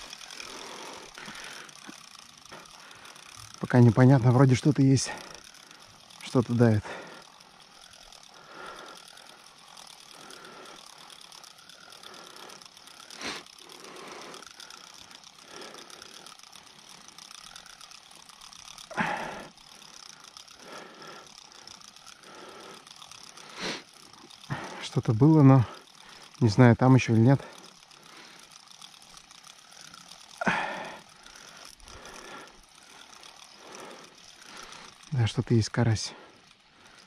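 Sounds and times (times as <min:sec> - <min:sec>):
fishing reel whirring: 0:00.0 - 0:37.0.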